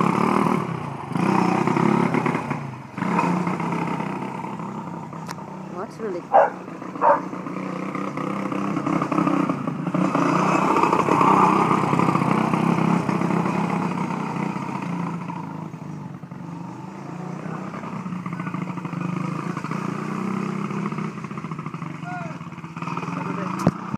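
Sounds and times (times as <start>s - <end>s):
buggy engine running: 0.0s - 23.9s.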